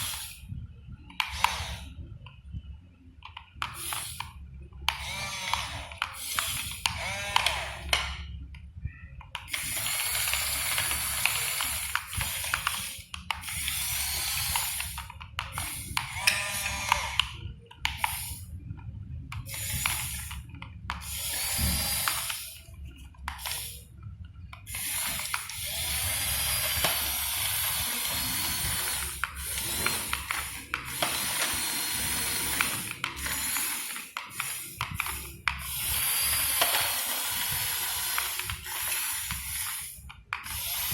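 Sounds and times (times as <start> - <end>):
small electric motors whirring: 0.0 - 0.4, 1.1 - 2.0, 3.6 - 8.2, 9.3 - 18.5, 19.3 - 23.9, 24.6 - 40.9.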